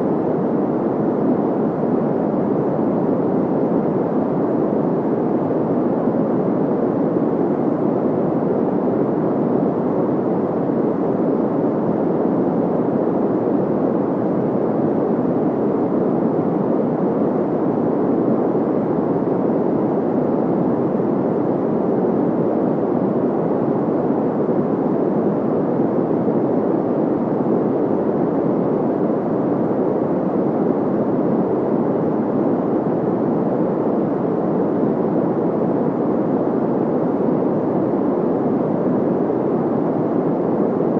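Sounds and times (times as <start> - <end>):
low rushing white noise: 0.0 - 40.9.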